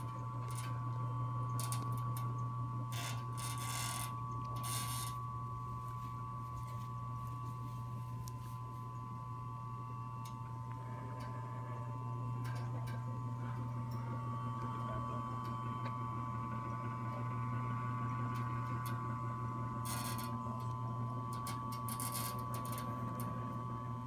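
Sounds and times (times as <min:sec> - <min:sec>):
electric winch motor humming: 0:00.0 - 0:24.0.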